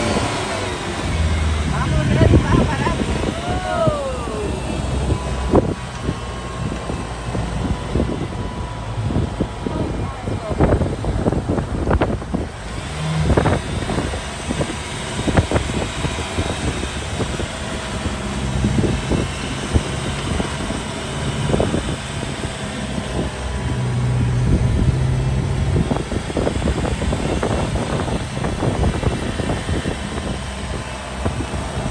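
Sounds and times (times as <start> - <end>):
jeep engine running: 0.0 - 31.9
wind noise: 0.0 - 31.9.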